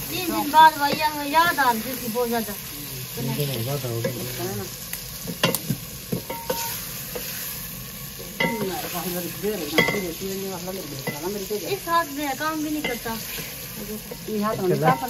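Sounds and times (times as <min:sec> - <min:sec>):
vegetables sizzling in pot: 0:00.0 - 0:15.0.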